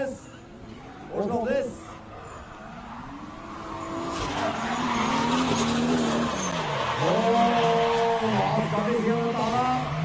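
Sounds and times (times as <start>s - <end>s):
car engines revving hard: 0.6s - 10.0s
tyres skidding: 0.6s - 10.0s.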